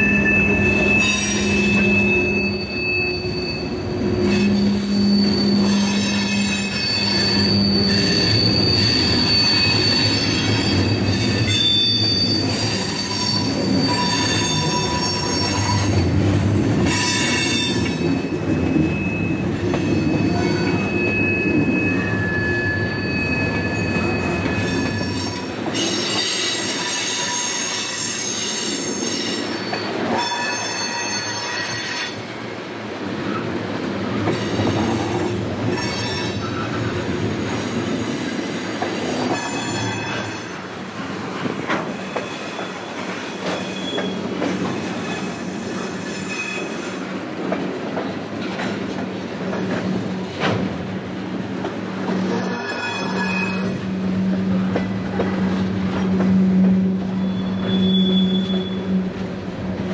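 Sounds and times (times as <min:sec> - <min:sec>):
low train rumble: 0:00.0 - 0:30.3, 0:30.9 - 0:59.9
steel wheels squealing: 0:00.0 - 0:32.4, 0:34.1 - 0:47.6, 0:51.5 - 0:59.6
freight train cars rolling: 0:00.0 - 0:59.9.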